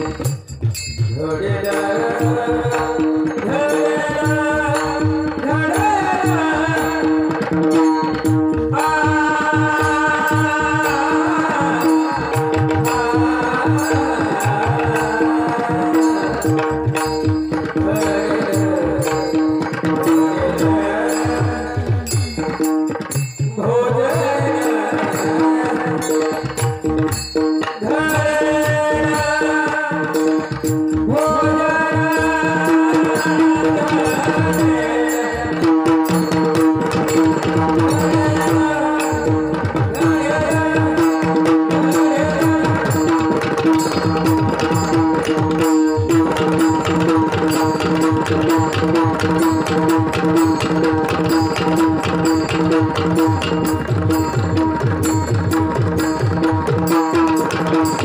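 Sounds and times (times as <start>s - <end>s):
fast hand-drum rhythm: 0.0s - 58.0s.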